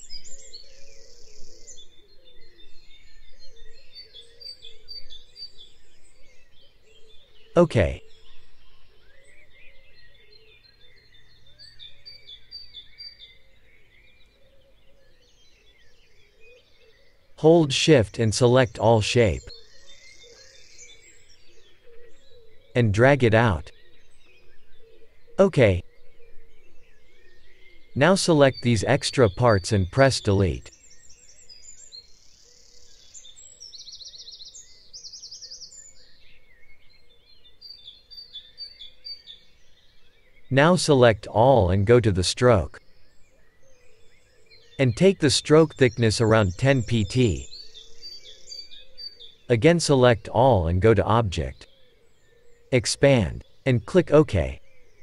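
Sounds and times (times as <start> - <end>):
bird calls and chirps: 0.0 - 55.0.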